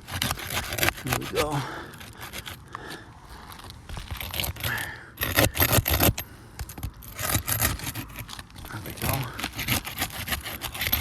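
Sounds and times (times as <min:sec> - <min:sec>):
roof shingles scraping and crackling: 0:00.0 - 0:06.2, 0:06.8 - 0:11.0.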